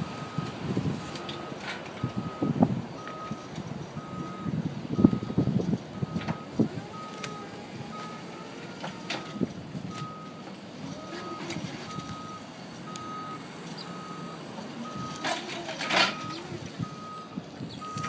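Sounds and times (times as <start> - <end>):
forklift backup alarm beeping: 0.0 - 18.0.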